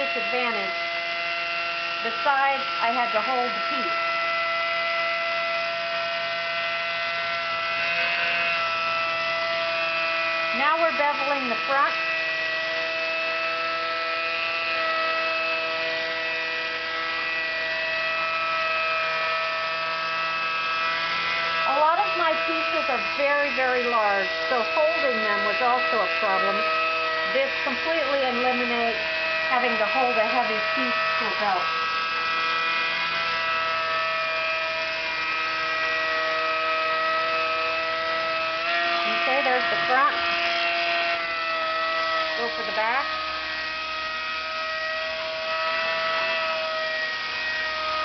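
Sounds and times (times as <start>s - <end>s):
wet angle grinder grinding glass: 0.0s - 48.0s.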